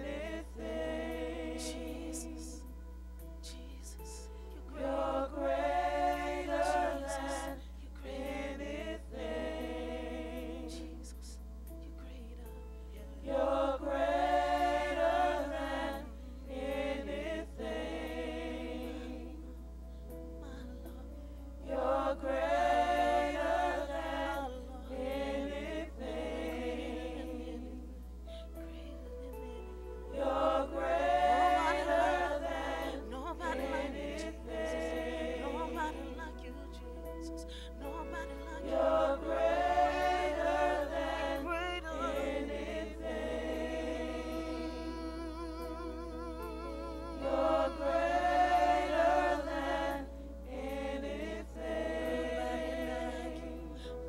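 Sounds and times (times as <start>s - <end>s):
gospel choir singing: 0.0s - 2.8s, 3.4s - 19.8s, 20.4s - 54.0s.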